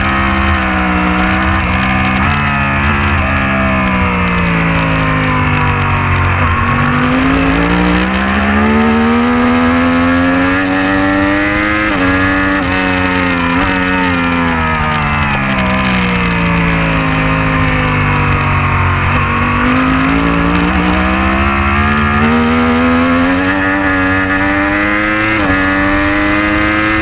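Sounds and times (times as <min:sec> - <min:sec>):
racing motorcycle engine revving: 0:00.0 - 0:27.0.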